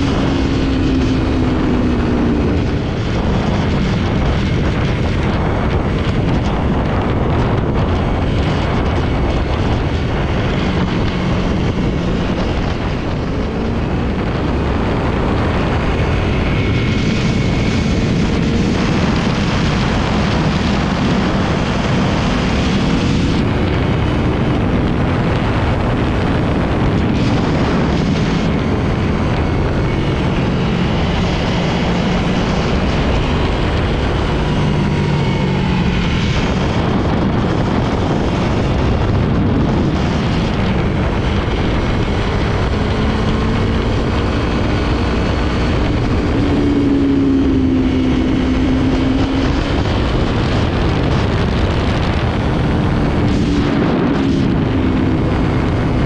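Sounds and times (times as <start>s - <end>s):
motorcycle engine at speed: 0.0s - 56.0s
wind rushing over microphone: 0.0s - 56.0s.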